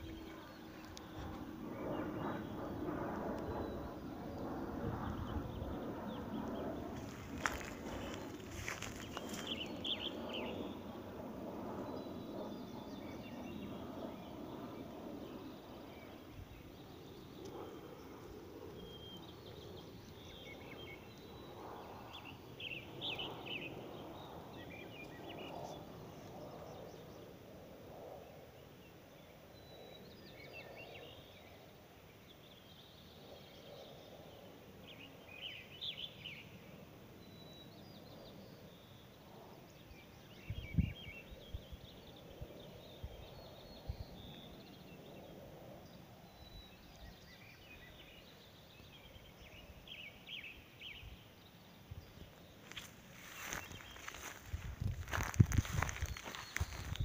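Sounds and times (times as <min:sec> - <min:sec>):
faint birdsong chirping: 0:00.0 - 0:57.0.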